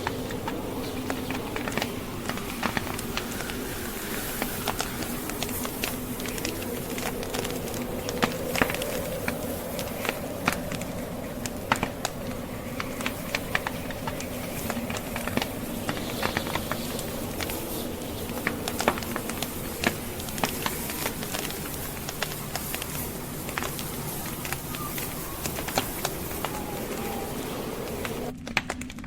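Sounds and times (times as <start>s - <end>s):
low rush of wind: 0.0s - 28.4s
logs crackling and popping: 0.0s - 29.0s.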